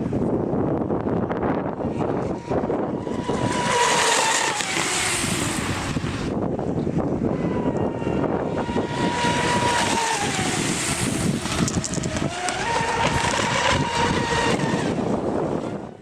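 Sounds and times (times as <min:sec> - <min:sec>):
wind on microphone: 0:00.0 - 0:16.0
model boat motor whining: 0:00.8 - 0:16.0.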